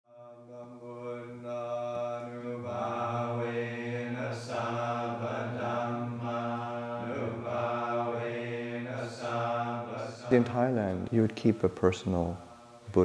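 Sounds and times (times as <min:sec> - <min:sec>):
monks chanting in unison: 0:00.1 - 0:11.8.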